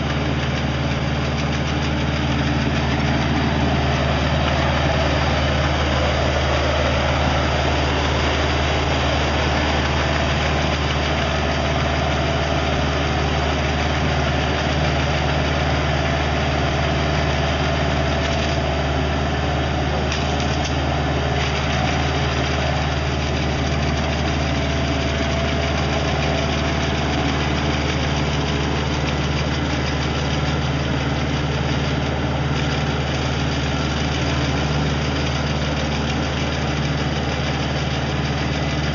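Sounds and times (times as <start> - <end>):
tractor engine running steadily: 0.0 - 38.9.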